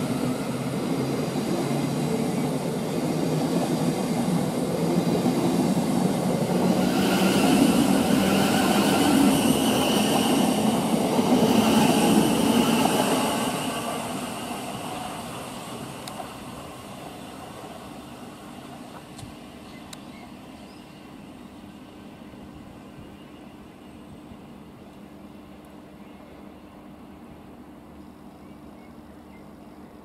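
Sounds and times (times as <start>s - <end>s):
high train whine: 0.0s - 30.0s
train wheel and rail rumble: 0.0s - 30.0s.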